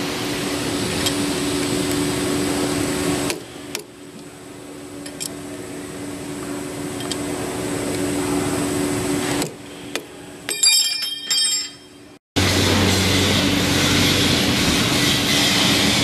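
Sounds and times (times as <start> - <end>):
loud steady machine noise: 0.0 - 9.9, 12.4 - 16.0
steady machine hum: 0.0 - 10.5, 11.7 - 16.0.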